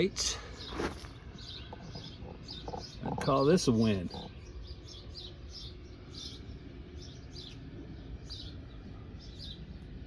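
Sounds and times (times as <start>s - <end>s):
small bird chirping: 0.5s - 10.0s.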